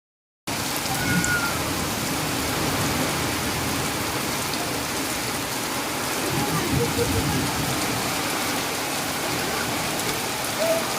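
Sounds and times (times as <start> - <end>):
steady rain falling: 0.5 - 10.9.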